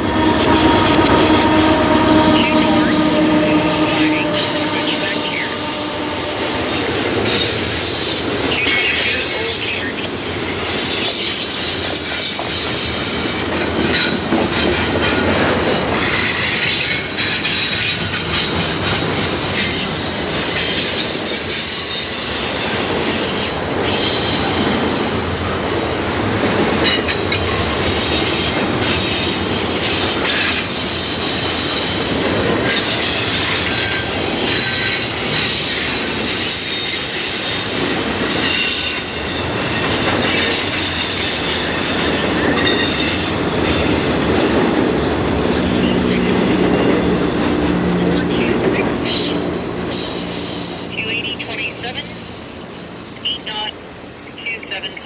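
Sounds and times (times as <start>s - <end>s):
railway cars rumbling and clattering: 0.0s - 55.0s
steel wheels squealing on rails: 0.0s - 55.0s.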